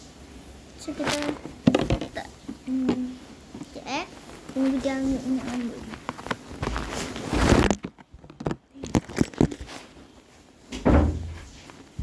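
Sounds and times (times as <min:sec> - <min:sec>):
rustling and handling noises: 0:00.5 - 0:12.0.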